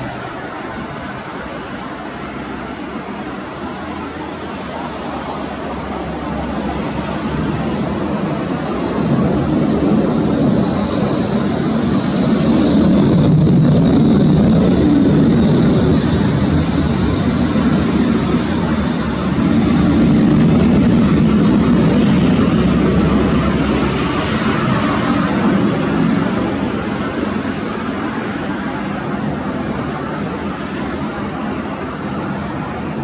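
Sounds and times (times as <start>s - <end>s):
jet engine rumble with hiss: 0.0s - 33.0s.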